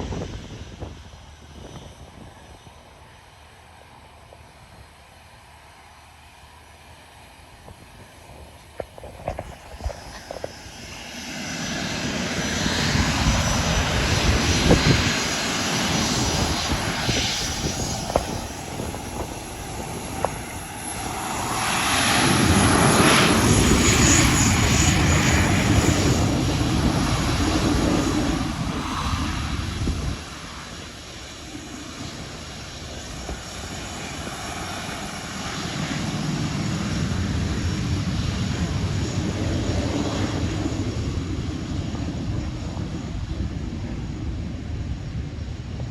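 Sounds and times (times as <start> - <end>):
airplane engines: 0.0 - 45.9.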